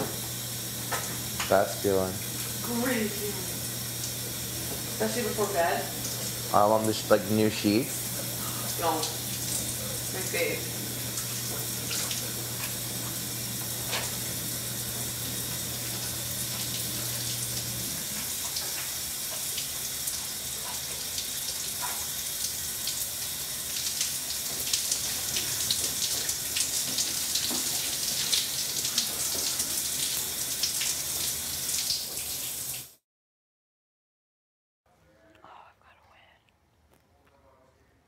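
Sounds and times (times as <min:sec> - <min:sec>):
water running from tap: 0:00.0 - 0:33.0.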